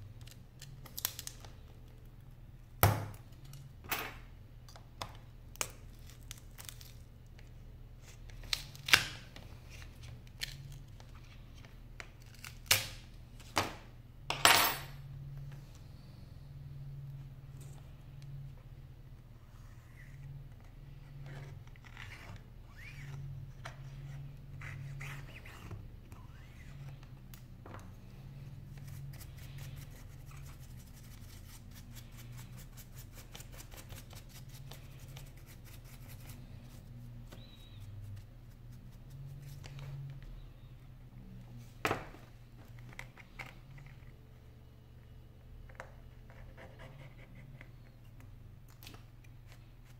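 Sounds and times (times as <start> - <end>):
low steady hum: 0.0 - 49.9.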